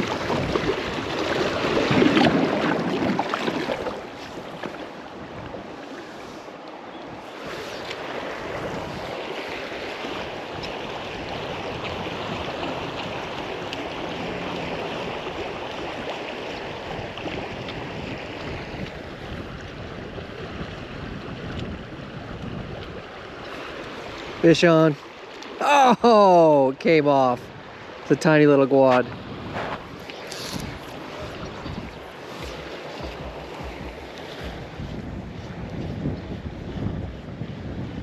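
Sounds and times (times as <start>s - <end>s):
river water rushing: 0.0s - 19.3s, 21.8s - 34.8s.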